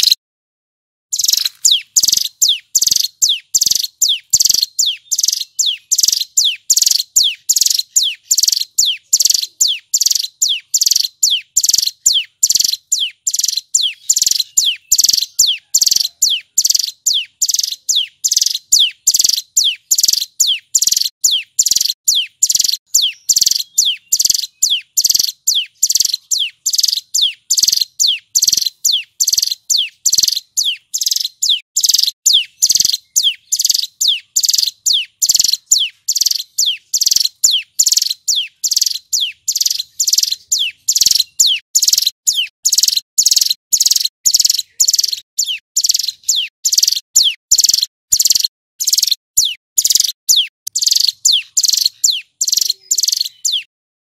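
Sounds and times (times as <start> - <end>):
bird whistling song: 1.2 - 53.7.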